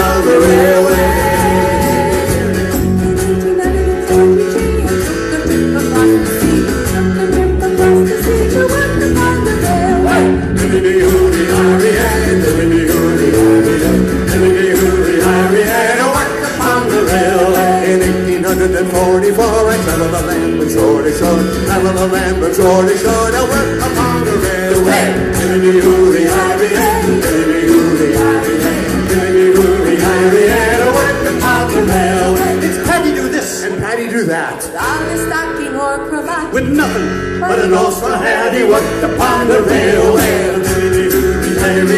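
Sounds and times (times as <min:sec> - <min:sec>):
percussion beat: 0:00.0 - 0:33.9, 0:38.4 - 0:41.9
strummed acoustic guitars: 0:00.0 - 0:34.2, 0:36.3 - 0:41.9
bass: 0:00.0 - 0:41.9
people singing: 0:00.0 - 0:41.9.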